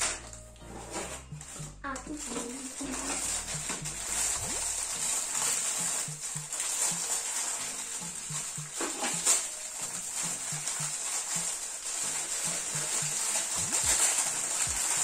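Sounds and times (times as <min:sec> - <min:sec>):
background music: 0:00.0 - 0:15.0
plastic bags crinkling: 0:00.0 - 0:15.0
sharp crackle: 0:00.0 - 0:15.0.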